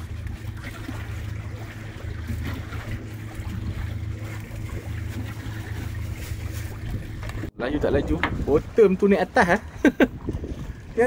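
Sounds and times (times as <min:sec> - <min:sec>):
low engine hum: 0:00.0 - 0:11.0
water noise: 0:00.0 - 0:11.0
wind: 0:00.0 - 0:11.0.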